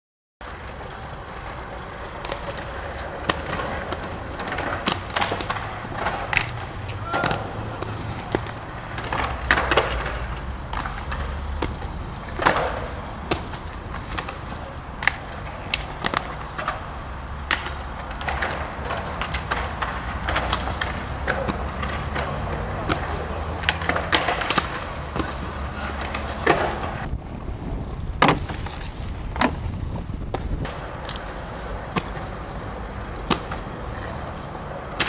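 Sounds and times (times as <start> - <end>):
skate wheels rolling on stone: 0.4 - 35.0
skates clacking on ground: 0.4 - 35.0.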